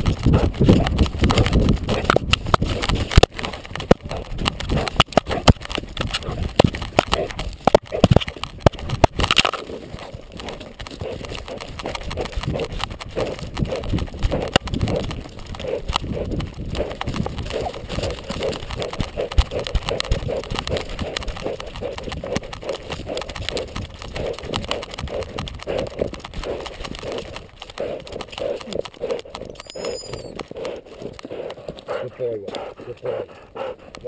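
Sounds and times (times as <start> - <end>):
dog panting: 0.0 - 34.0.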